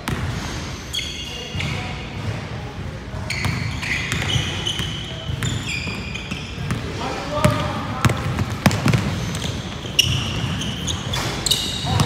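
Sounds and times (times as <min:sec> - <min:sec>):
sneakers squeaking on floor: 0:00.0 - 0:12.0.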